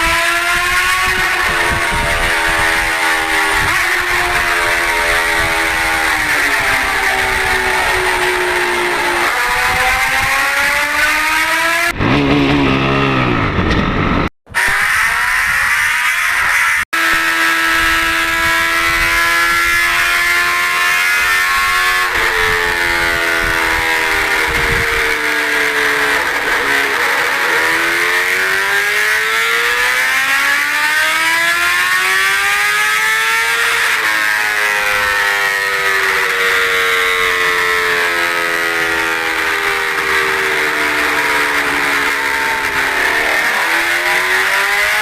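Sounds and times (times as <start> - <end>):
motorcycle engine running: 0.0 - 30.4, 38.0 - 45.0.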